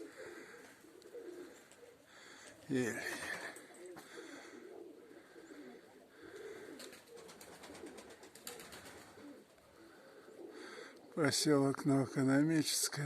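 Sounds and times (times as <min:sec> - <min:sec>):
pigeons cooing: 0:00.0 - 0:11.3.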